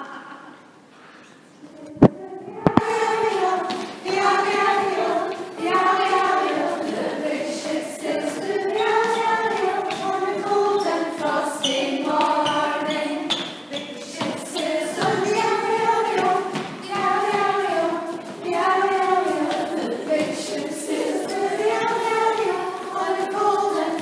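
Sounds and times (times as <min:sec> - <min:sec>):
girls and women singing together: 0:01.4 - 0:24.0.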